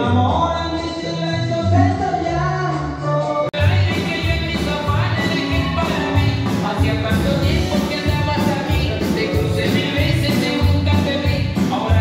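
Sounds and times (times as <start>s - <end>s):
latin dance music with singing: 0.0s - 12.0s.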